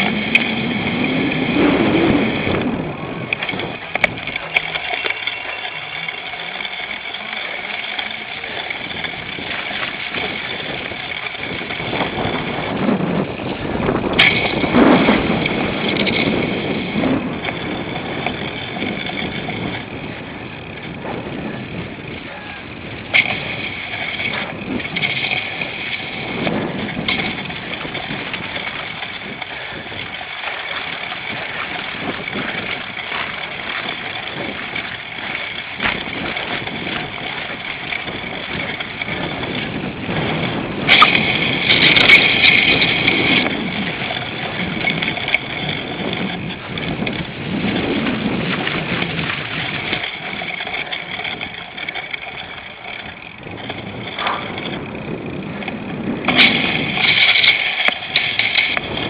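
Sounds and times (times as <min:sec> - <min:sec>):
bike rattling over rough ground: 0:00.0 - 0:59.0
wind on microphone: 0:00.0 - 0:59.0.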